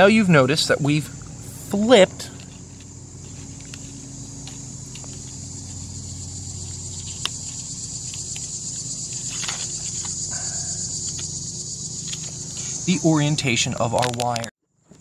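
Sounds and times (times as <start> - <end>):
low steady hum: 0.0 - 14.5
high-pitched insect chorus: 0.0 - 15.0.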